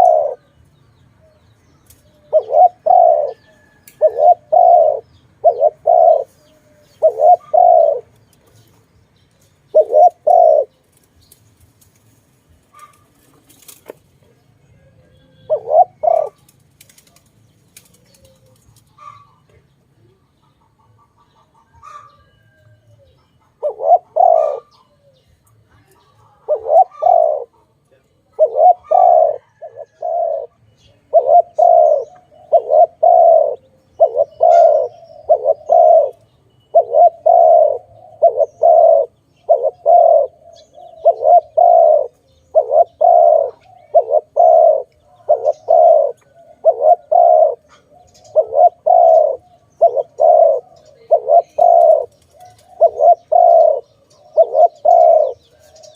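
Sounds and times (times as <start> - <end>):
dove cooing: 0.0 - 0.6, 2.0 - 8.8, 9.7 - 11.0, 12.7 - 55.9.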